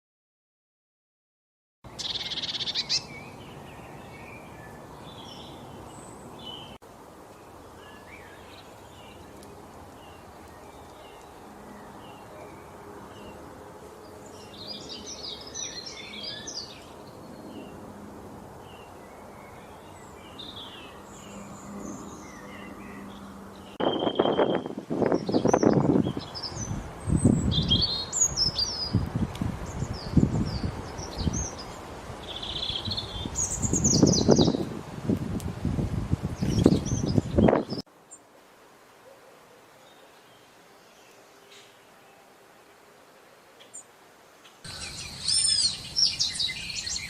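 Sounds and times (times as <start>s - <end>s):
wild birds singing and chirping: 1.9s - 34.8s, 36.2s - 38.3s, 39.0s - 42.4s, 43.2s - 47.0s
outdoor background hiss: 1.9s - 47.0s.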